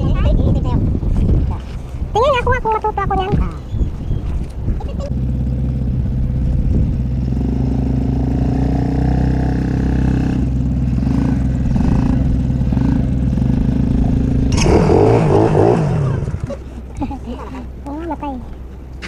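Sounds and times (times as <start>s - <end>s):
small engine idling: 0.5s - 19.0s.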